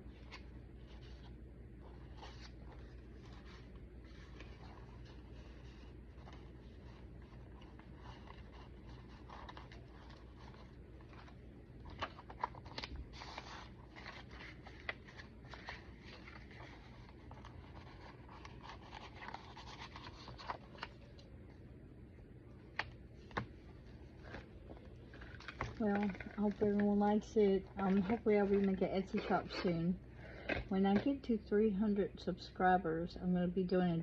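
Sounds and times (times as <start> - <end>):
paper pages rustling: 0.1 - 21.3, 22.7 - 29.6.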